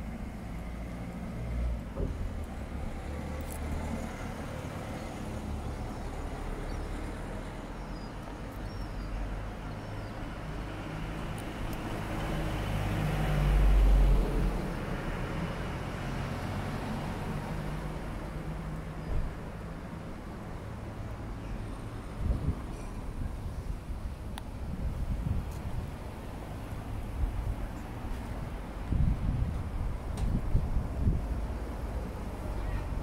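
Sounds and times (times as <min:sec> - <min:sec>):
low rumble of traffic: 0:00.0 - 0:33.0.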